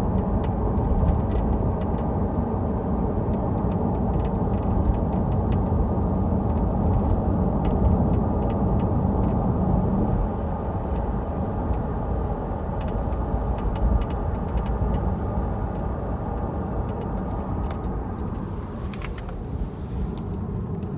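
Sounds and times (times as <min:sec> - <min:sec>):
road and tyre rumble: 0:00.0 - 0:20.9.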